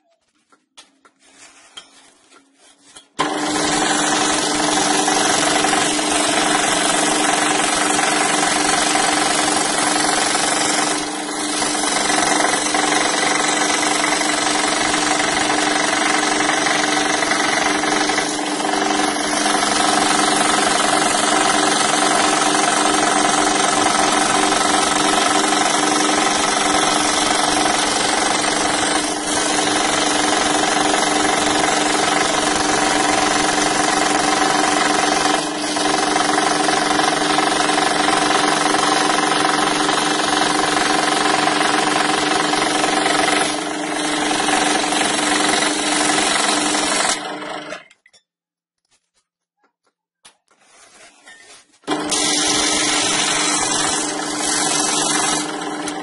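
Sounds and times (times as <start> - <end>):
scroll saw cutting: 3.2 - 47.8, 51.8 - 56.0.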